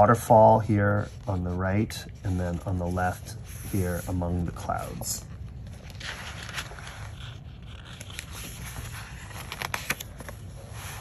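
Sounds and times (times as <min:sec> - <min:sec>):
book pages turning: 0:00.0 - 0:11.0.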